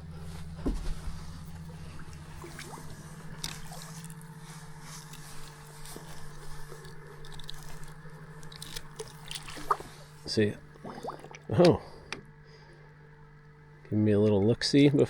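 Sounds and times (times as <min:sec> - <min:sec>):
river water lapping at bank: 0:00.0 - 0:13.9
low hum: 0:00.0 - 0:15.0.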